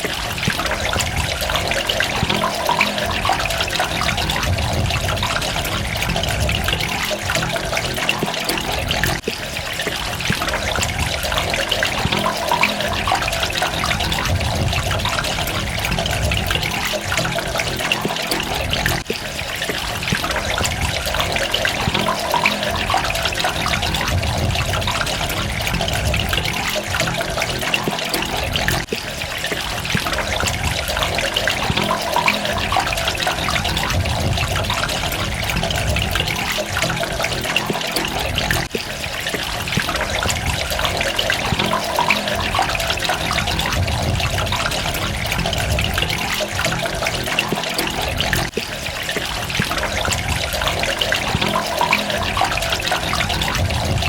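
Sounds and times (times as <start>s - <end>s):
water dripping: 0.0s - 54.0s
water running and trickling: 0.0s - 54.0s.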